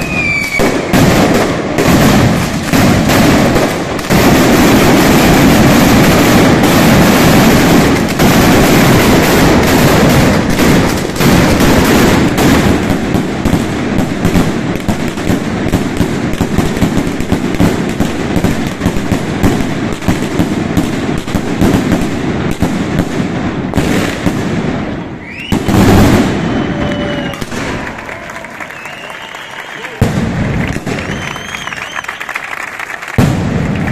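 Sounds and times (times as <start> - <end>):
firecrackers barrage: 0.0 - 33.9.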